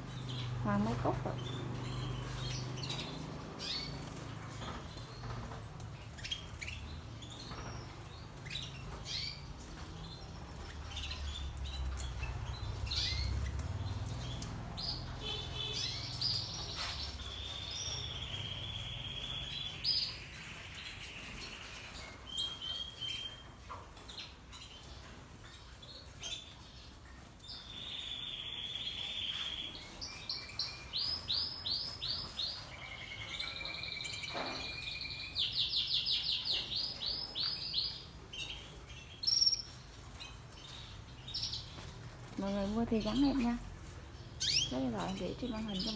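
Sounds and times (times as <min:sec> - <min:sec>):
canaries singing: 0:00.0 - 0:45.9.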